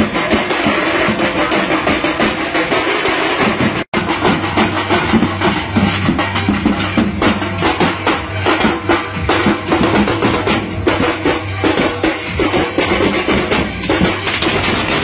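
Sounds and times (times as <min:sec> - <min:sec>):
street drum band: 0:00.0 - 0:15.0.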